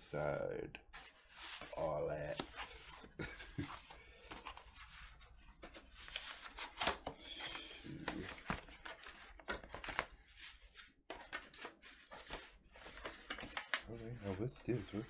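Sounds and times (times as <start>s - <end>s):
cardboard and paper rustling: 1.0s - 15.0s.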